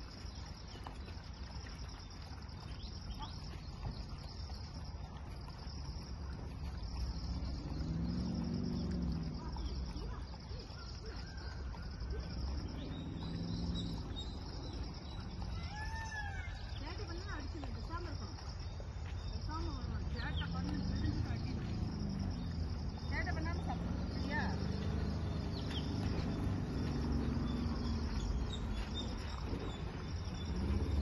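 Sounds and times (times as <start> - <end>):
insects chirping: 0.0 - 31.0
low outdoor rumble: 1.6 - 31.0.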